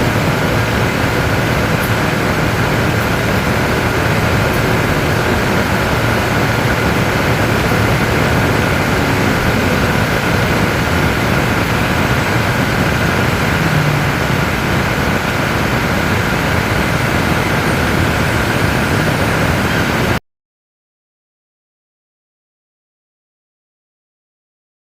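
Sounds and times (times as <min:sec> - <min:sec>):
airliner rushing noise: 0:00.0 - 0:20.2
faint steady high whine: 0:00.0 - 0:20.2.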